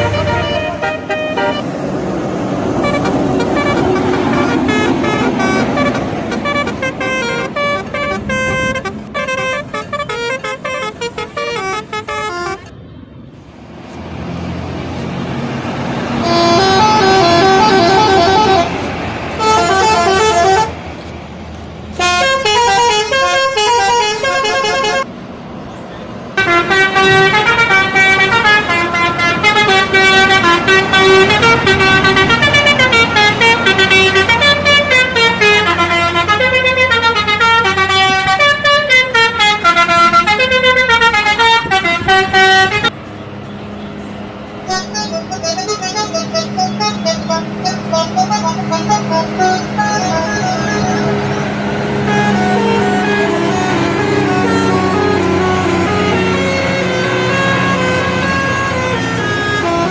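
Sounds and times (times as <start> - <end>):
multi-trumpet air horns playing tunes: 0.0 - 1.6, 2.8 - 12.7, 16.2 - 21.1, 21.9 - 25.1, 26.4 - 42.9, 44.7 - 59.9
low rumble of engines: 0.0 - 59.9.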